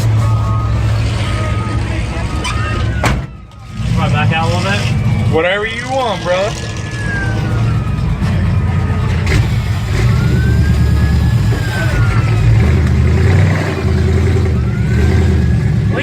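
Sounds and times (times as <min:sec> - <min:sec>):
truck engine rumbling and revving: 0:00.0 - 0:16.0.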